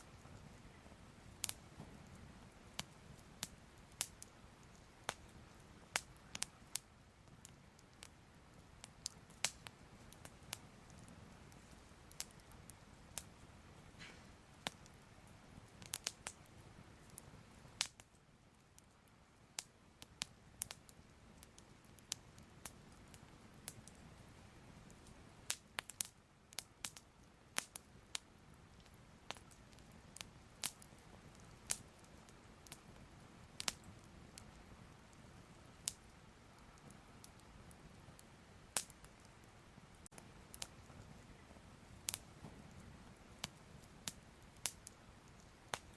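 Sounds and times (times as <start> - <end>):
fire crackling and popping: 0.0 - 45.9
low steady hiss: 0.0 - 45.9.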